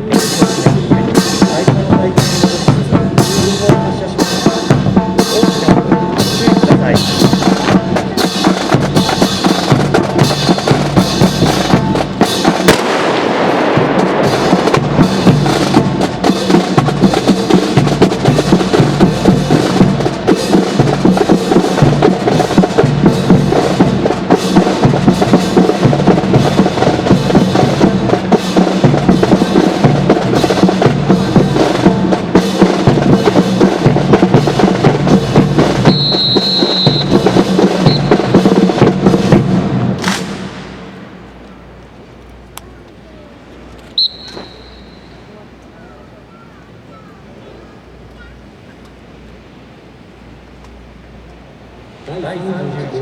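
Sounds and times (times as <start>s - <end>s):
marching drums cadence: 0.0s - 53.0s.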